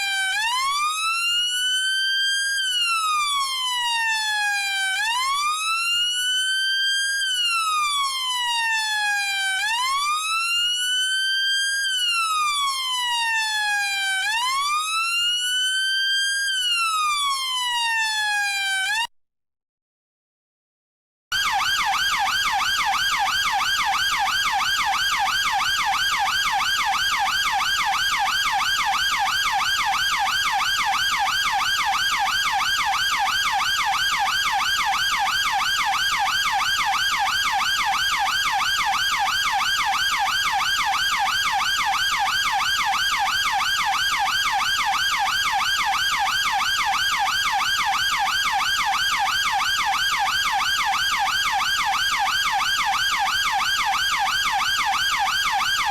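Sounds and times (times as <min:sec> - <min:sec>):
police siren yelping: 0:00.0 - 0:19.1, 0:21.3 - 0:55.9.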